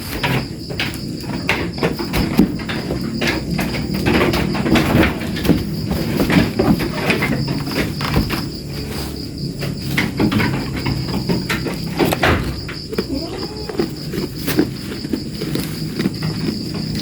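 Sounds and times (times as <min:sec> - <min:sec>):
goats knocking and scuffing: 0:00.0 - 0:17.0.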